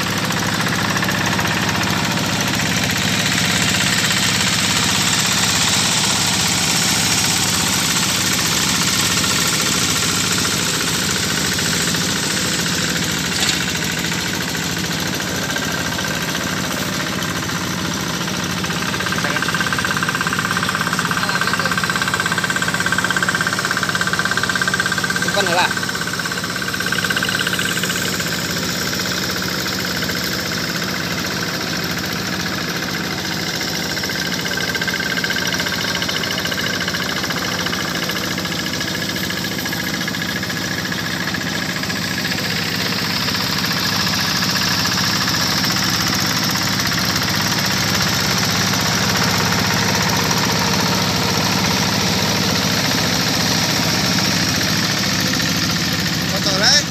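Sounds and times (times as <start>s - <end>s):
diesel tractor engine running: 0.0s - 56.9s.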